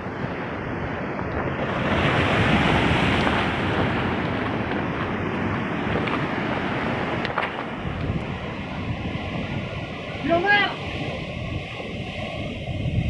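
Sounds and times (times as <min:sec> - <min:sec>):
waves breaking on shore: 0:00.0 - 0:13.0
wind buffeting microphone: 0:00.0 - 0:13.0.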